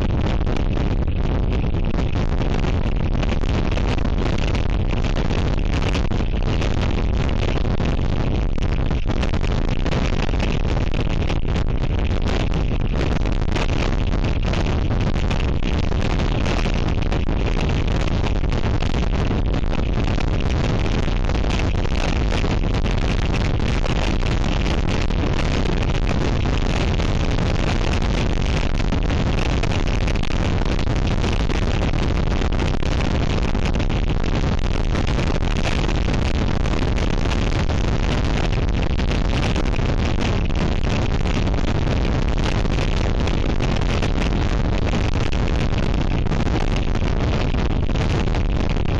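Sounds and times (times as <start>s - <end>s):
strong wind on microphone: 0.0s - 48.9s.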